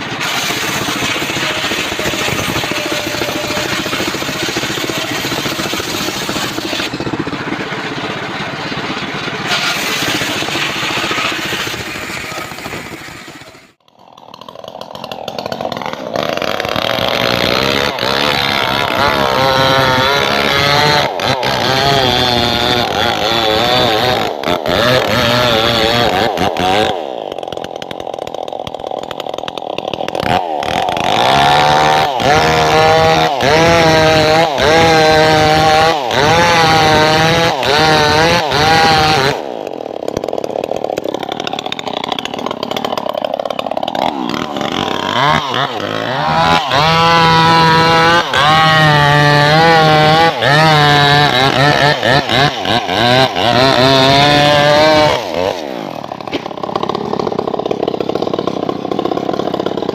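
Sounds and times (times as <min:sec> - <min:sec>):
engine-driven saw cutting wood: 0:00.0 - 0:59.9.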